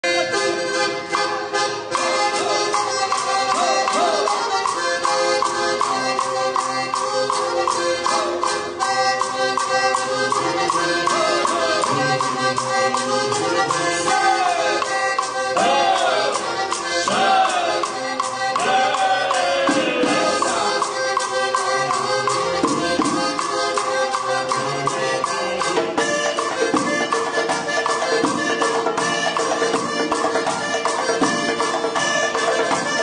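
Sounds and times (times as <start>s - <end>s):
accordion playing lively tune: 0.0s - 33.0s.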